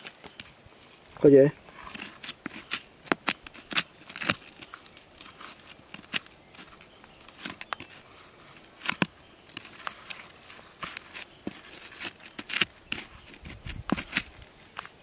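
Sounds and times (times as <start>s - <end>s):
hand tool scraping gritty soil: 0.0s - 15.0s.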